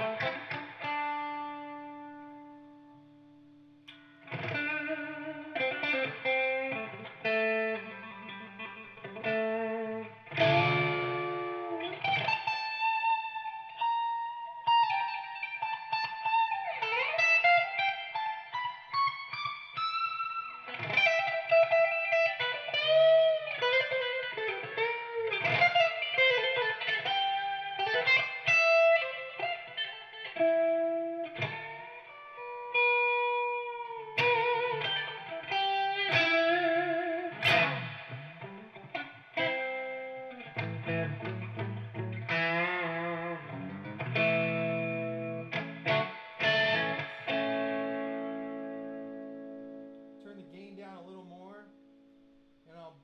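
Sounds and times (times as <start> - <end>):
overdriven electric guitar lead: 0.0 - 50.4.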